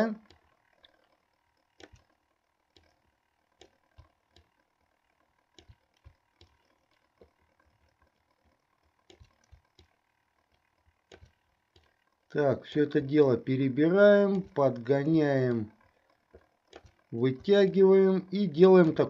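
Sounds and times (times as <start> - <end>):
computer mouse and keyboard clicks: 0.0 - 12.2, 14.0 - 17.8.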